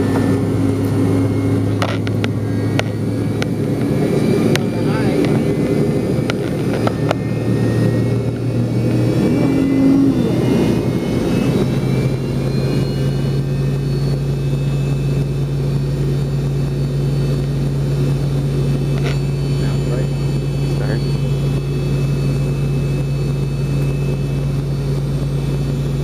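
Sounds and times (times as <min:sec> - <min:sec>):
jet engine hum and rumble: 0:00.0 - 0:26.0.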